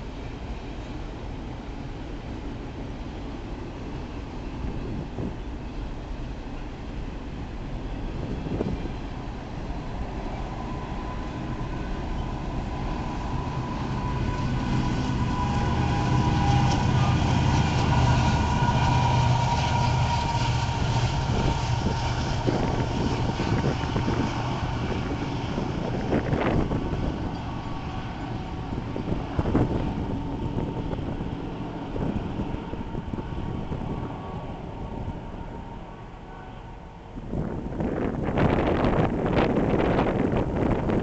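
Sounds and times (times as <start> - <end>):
diesel locomotive engines droning: 0.0 - 41.0
train wheels rumbling on rails: 0.0 - 41.0.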